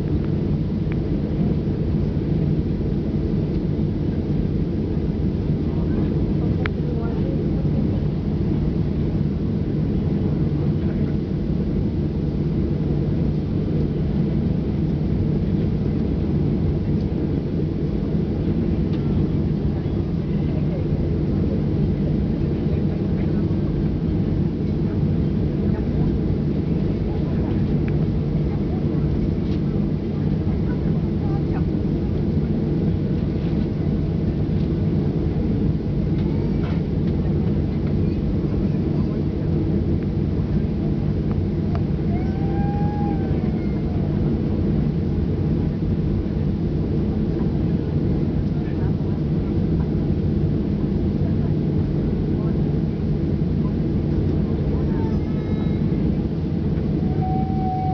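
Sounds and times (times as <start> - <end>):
jet engines rumbling: 0.0 - 57.9.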